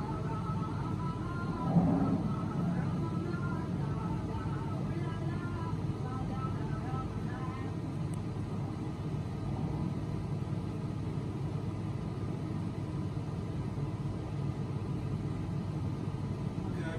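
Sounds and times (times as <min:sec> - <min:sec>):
low background rumble: 0:00.0 - 0:16.9.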